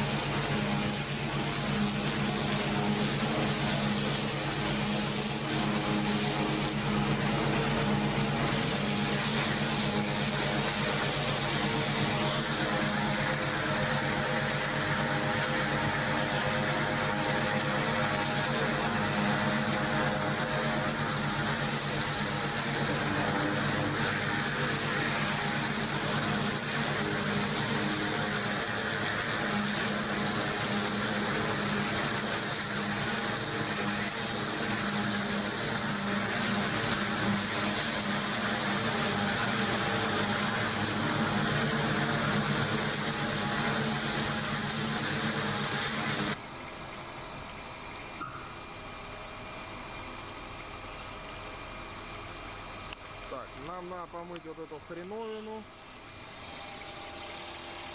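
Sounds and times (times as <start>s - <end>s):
pressure washer spray hissing: 0.0s - 46.4s
machine engine droning: 0.0s - 57.9s.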